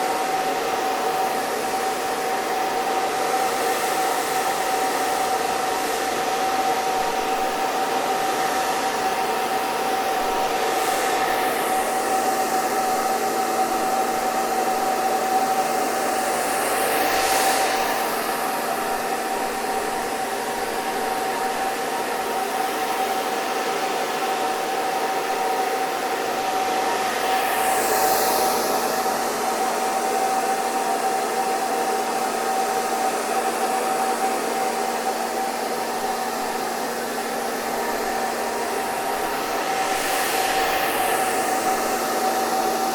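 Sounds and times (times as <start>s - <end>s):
hair dryer running: 0.0s - 42.9s.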